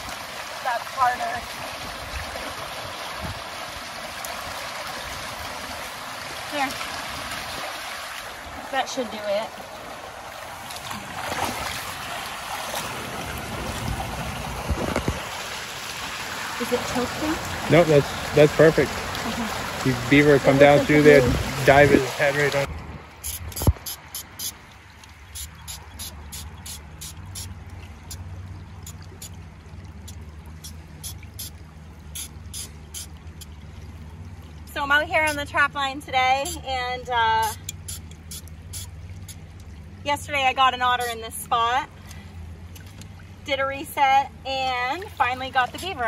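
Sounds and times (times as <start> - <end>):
low steady rumble: 0.0 - 46.0
shallow stream trickling: 0.0 - 46.0
water sloshing and splashing: 0.0 - 46.0.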